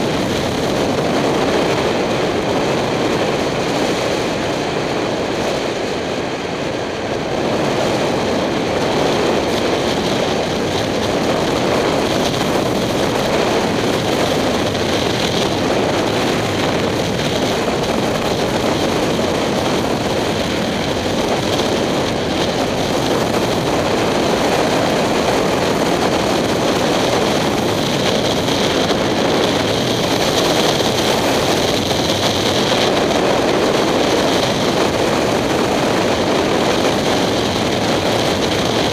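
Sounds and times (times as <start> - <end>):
motorcycle engine running: 0.0 - 38.9
wind rush over microphone: 0.0 - 38.9.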